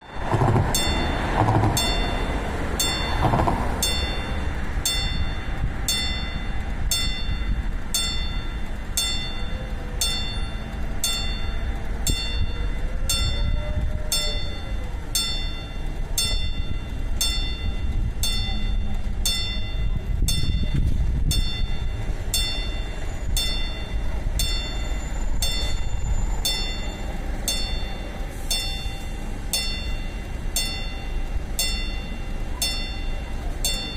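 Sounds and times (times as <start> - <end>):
diesel railcar rumbling: 0.0 - 33.9
level crossing bell ringing: 0.0 - 33.9.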